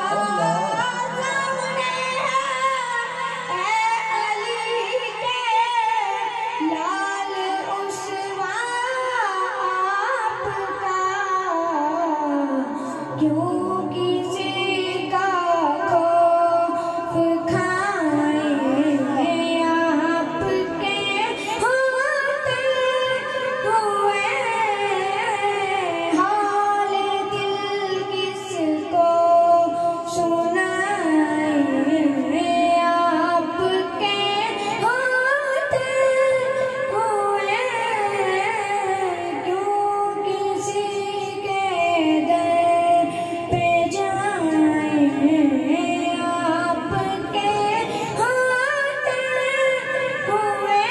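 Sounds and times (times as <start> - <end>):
boy singing into a microphone: 0.0 - 50.9.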